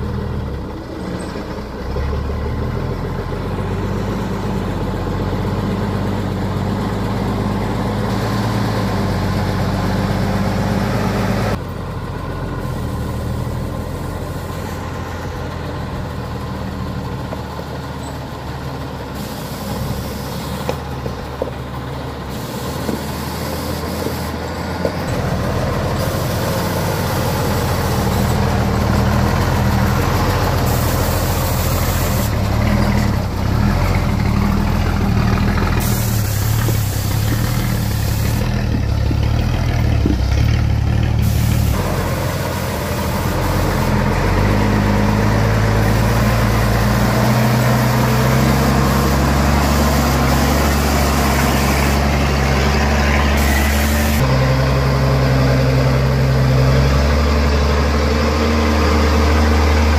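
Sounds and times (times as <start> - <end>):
heavy truck engine running: 0.0 - 59.9.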